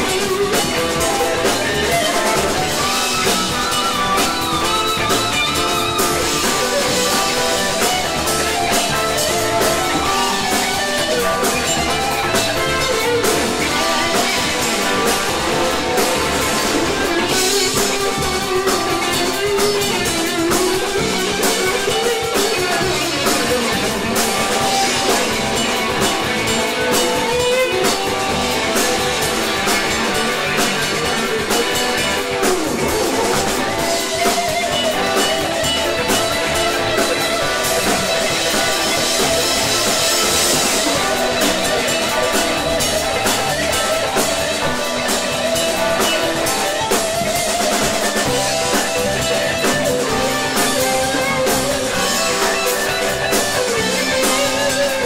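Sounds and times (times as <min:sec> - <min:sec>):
live rock band playing: 0:00.0 - 0:55.0
sliding lead electric guitar: 0:00.0 - 0:55.0.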